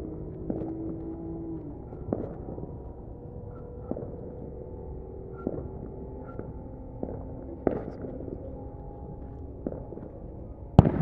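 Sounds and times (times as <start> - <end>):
distant fireworks banging: 0.0 - 11.0
steady low rumble: 0.0 - 11.0.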